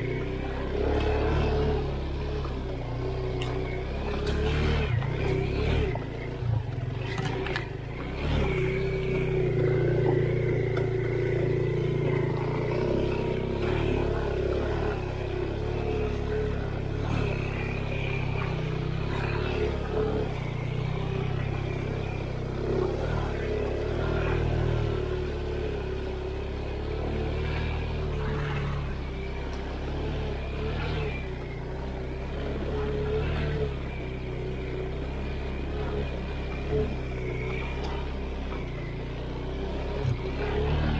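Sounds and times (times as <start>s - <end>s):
motorcycle engine running under load: 0.0s - 40.9s.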